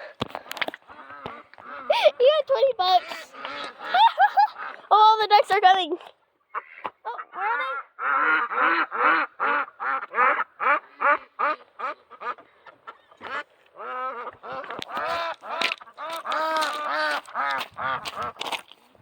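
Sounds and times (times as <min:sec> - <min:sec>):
ducks quacking: 0:00.0 - 0:05.8, 0:06.4 - 0:18.7.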